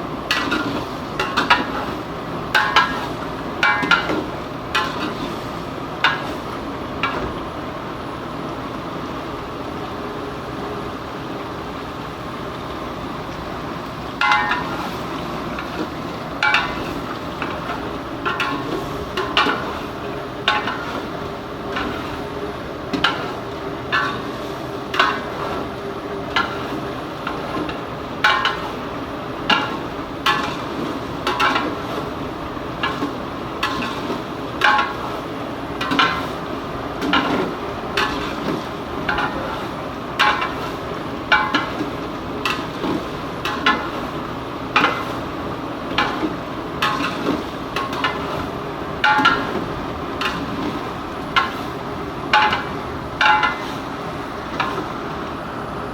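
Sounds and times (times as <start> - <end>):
hiss of frying: 0.0 - 55.9.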